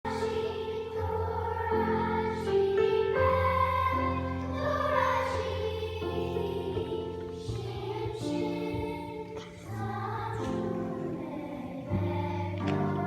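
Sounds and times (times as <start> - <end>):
chorus singing held notes: 0.1 - 13.0.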